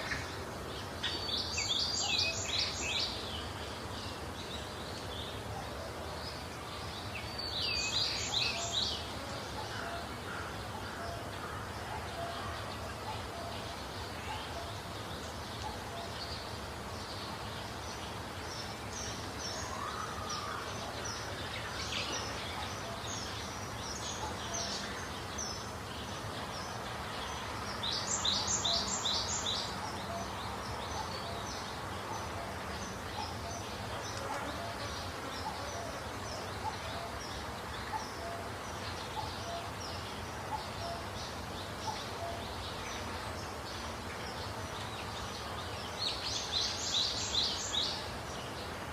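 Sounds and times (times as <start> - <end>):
outdoor background noise: 0.0 - 48.9
small birds chirping: 0.0 - 48.9.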